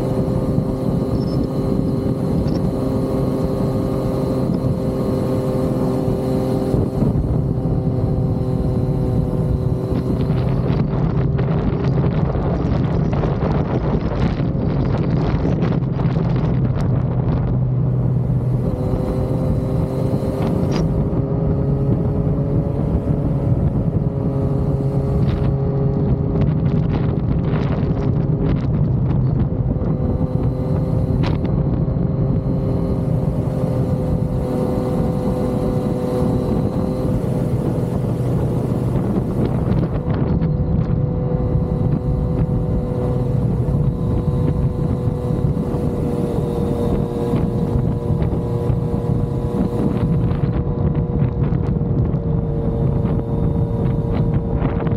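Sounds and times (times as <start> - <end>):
motorcycle engine cruising: 0.0 - 54.9
wind noise on microphone: 0.0 - 54.9.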